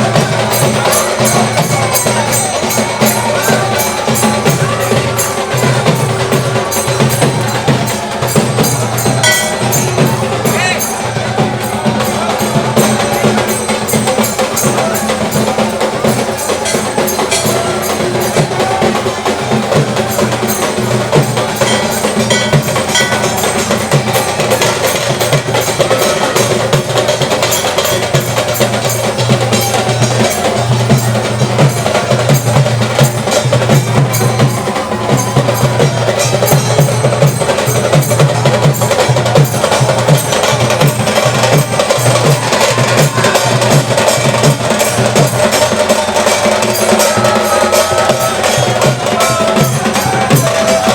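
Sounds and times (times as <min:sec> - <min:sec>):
fast percussive music: 0:00.0 - 0:50.9
ringing bell-like tones: 0:00.0 - 0:50.9.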